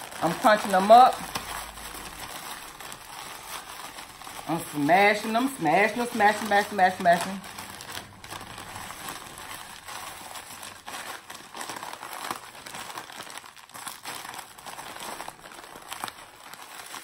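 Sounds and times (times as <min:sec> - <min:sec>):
cookies crunching: 0:00.0 - 0:17.0
plastic bag crinkling: 0:00.0 - 0:17.0.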